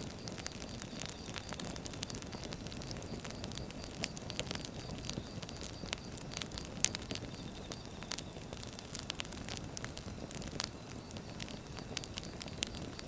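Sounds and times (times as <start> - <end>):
fire crackling and snapping: 0.0 - 13.0.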